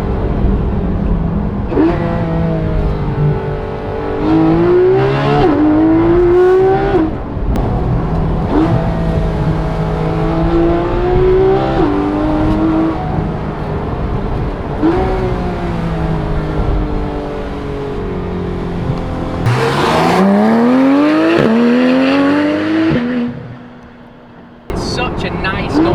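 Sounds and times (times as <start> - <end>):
sports car engine accelerating: 0.0 - 25.9.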